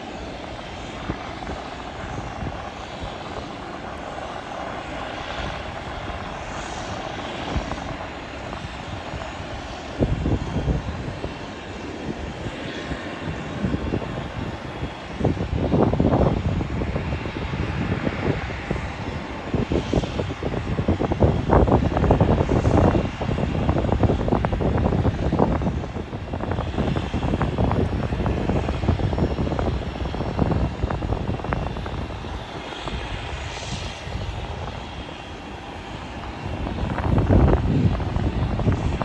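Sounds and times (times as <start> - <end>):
airliner engines roaring: 0.0 - 39.0
wind buffeting microphone: 0.0 - 39.0.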